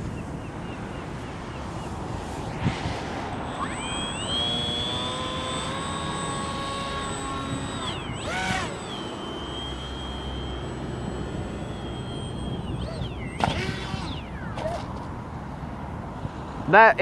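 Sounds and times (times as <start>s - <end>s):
wind rumbling on microphone: 0.0s - 16.7s
model plane motor whining: 0.5s - 15.2s.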